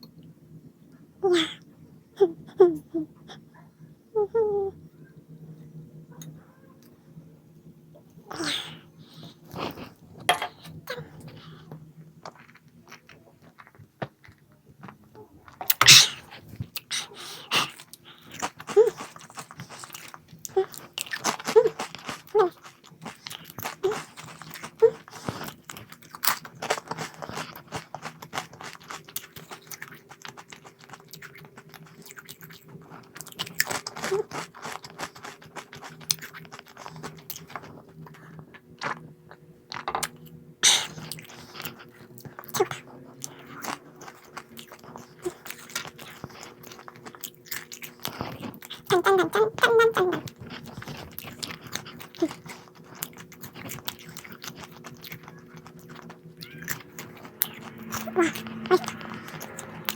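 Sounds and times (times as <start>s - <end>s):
crunchy snack chewing: 9.1s - 59.9s.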